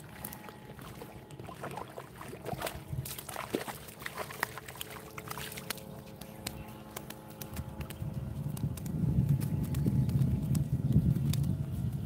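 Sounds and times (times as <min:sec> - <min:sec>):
fish splashing in shallow water: 0:00.0 - 0:11.5.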